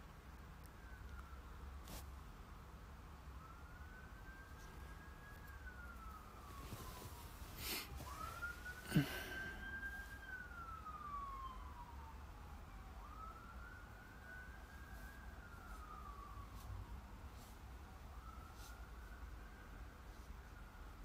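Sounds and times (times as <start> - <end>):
faint siren wailing: 0.1 - 21.0.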